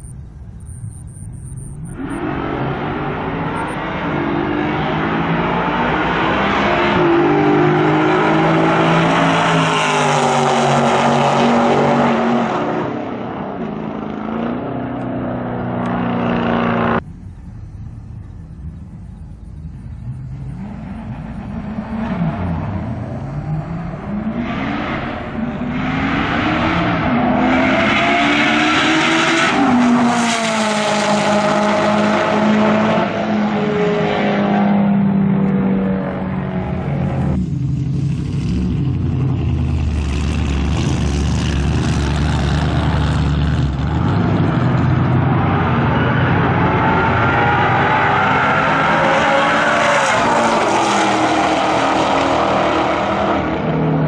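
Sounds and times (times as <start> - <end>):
car engines at full throttle: 0.0 - 54.0.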